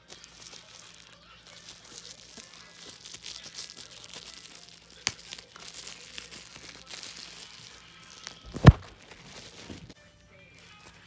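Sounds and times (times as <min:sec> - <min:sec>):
bubble wrap crinkling: 0:00.0 - 0:10.0, 0:10.6 - 0:11.0
bubble wrap snap: 0:00.0 - 0:10.0.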